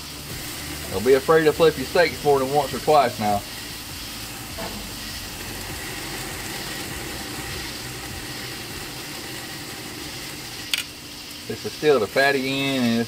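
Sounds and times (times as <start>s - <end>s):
steaks sizzling on a grill: 0.0s - 13.0s.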